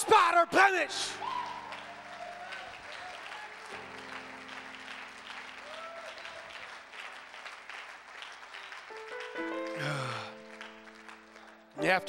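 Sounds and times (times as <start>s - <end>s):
congregation applauding: 1.0s - 12.0s.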